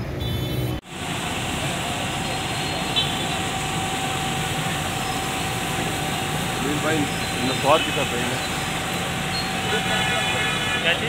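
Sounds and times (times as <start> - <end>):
fire engines running: 0.0 - 11.0.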